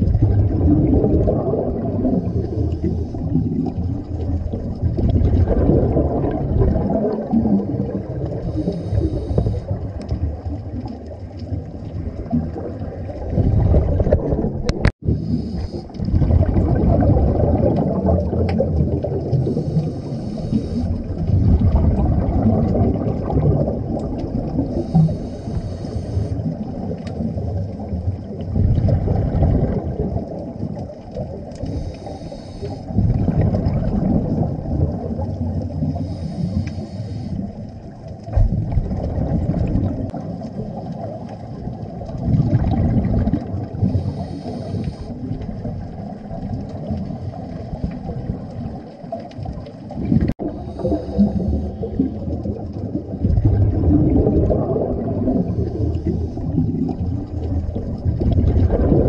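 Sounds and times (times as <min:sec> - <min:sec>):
underwater bubbling from exhaled air: 0:00.0 - 0:59.0.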